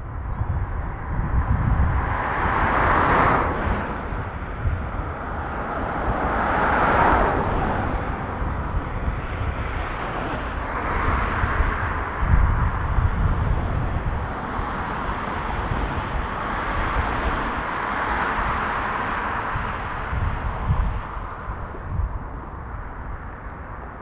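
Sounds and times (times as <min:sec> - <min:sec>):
jet engines low rumble: 0:00.0 - 0:24.0.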